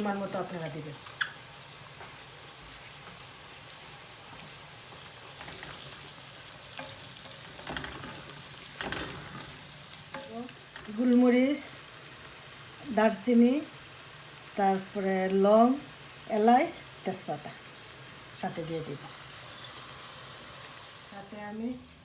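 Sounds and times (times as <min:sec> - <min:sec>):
onion sizzling in oil: 0:00.0 - 0:22.0.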